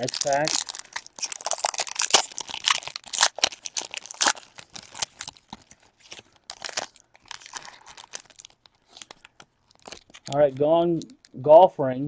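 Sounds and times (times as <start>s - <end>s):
foil wrapper tearing and crinkling: 0.0s - 11.4s.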